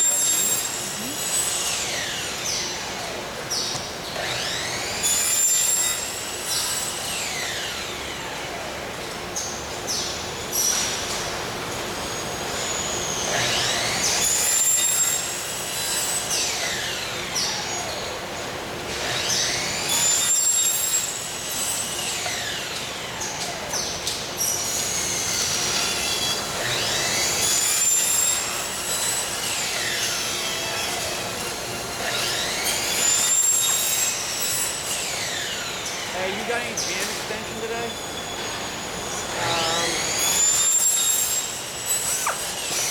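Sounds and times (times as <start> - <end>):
steady shop hum: 0.0 - 42.9.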